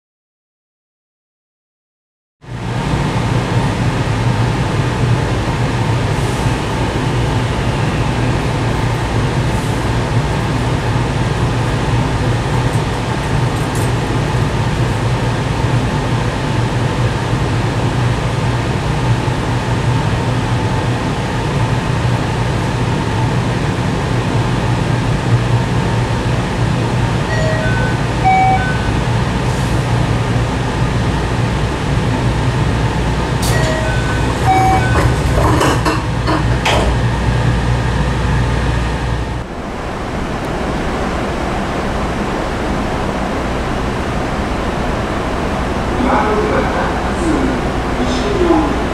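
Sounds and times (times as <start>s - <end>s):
train onboard equipment hum: 2.4s - 48.9s.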